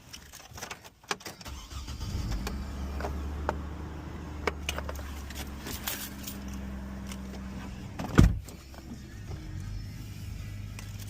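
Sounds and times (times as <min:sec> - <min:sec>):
car engine starting and idling: 0:01.2 - 0:11.0.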